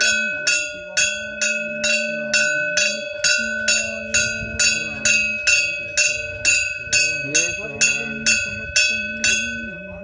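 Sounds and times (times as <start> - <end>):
bell ringing: 0.0 - 10.0.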